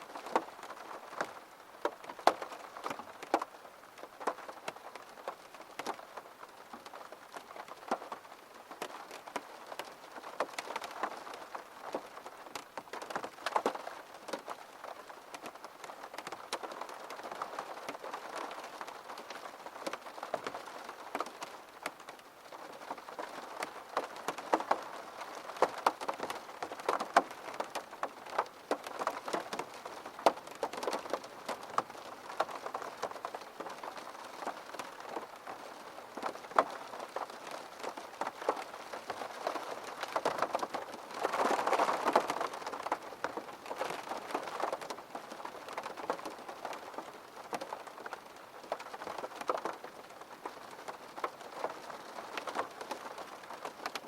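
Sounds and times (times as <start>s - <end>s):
rain falling: 0.0s - 54.0s
raindrops ticking close by: 0.0s - 54.0s.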